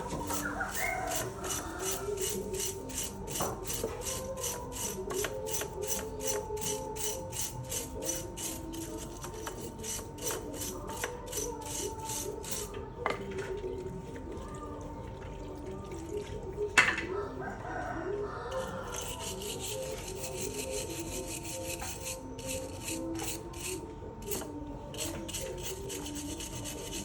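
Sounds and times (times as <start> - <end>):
rhythmic scraping strokes: 0.0 - 13.2, 17.4 - 27.0.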